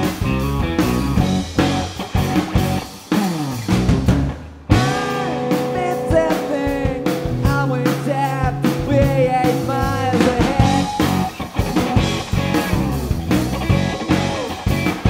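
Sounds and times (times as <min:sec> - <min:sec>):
bass guitar: 0:00.0 - 0:15.0
drum kit playing: 0:00.0 - 0:15.0
electric guitar with bent notes: 0:00.0 - 0:15.0.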